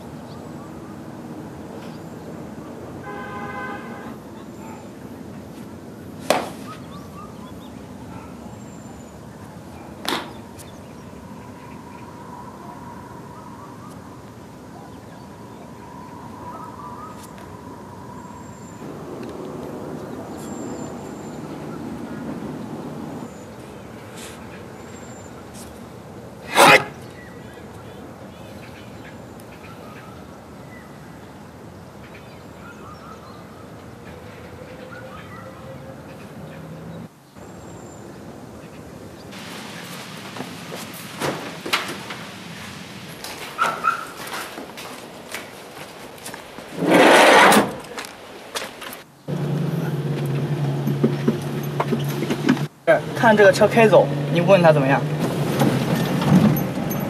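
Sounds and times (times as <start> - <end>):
steady background hiss: 0.0 - 34.9, 35.7 - 50.6
outdoor background noise: 0.0 - 57.0.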